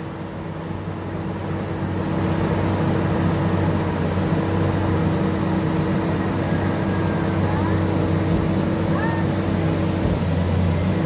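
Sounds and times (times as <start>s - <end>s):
skid steer engine running: 0.0s - 11.0s.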